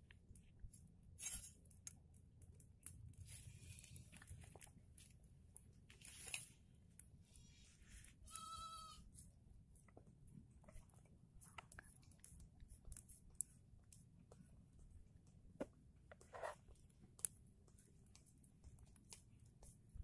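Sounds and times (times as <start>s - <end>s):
faint clicks and rustles: 0.0s - 8.3s, 9.0s - 20.0s.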